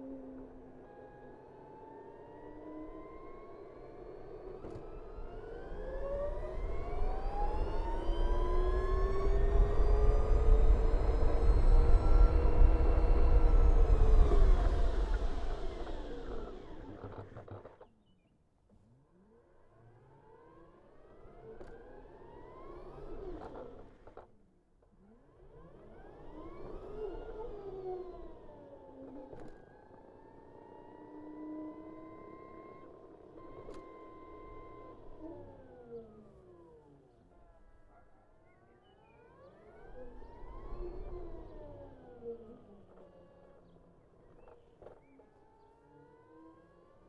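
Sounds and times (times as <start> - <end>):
electric scooter motor whining: 0.0 - 17.8, 25.3 - 37.8, 38.8 - 47.0.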